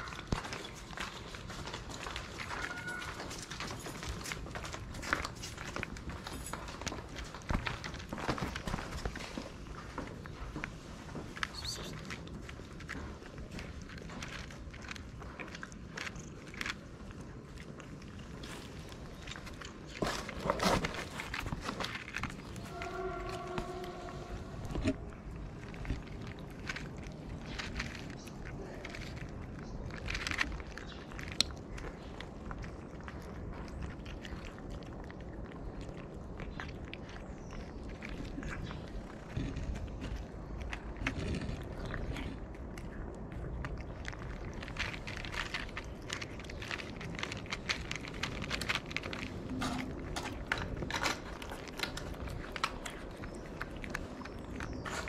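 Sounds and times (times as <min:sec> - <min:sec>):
cats chewing and crunching food: 0:00.0 - 0:55.0.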